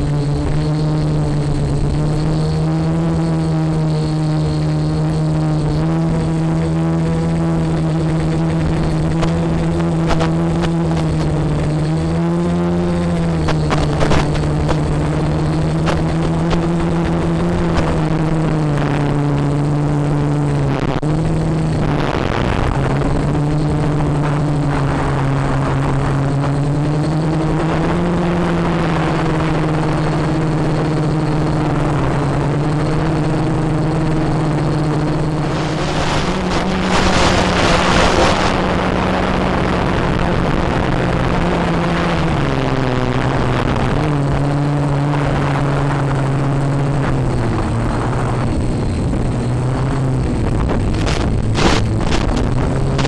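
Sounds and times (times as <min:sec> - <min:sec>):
drone propellers humming: 0:00.0 - 0:53.0
rush of noise: 0:00.0 - 0:53.0
wind noise: 0:00.0 - 0:53.0.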